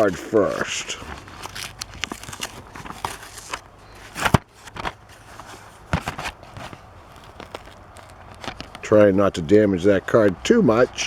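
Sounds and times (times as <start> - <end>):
packaging snap: 0.0 - 8.9
toy packaging crackling: 0.0 - 8.9.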